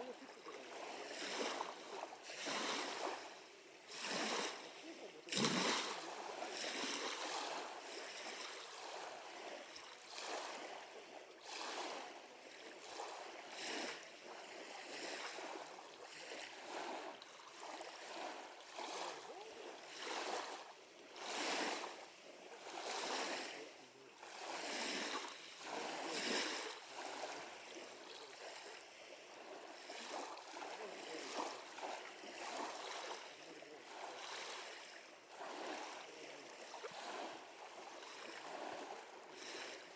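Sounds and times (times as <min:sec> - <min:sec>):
small waves lapping at shore: 0:00.0 - 0:39.9.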